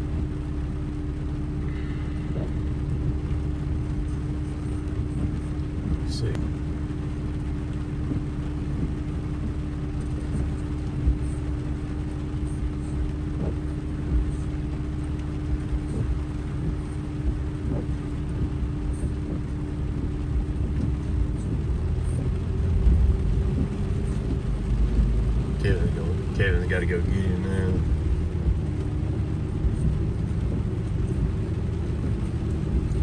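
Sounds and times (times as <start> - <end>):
steady hum: 0.0 - 33.0
truck engine and road rumble: 0.0 - 33.0.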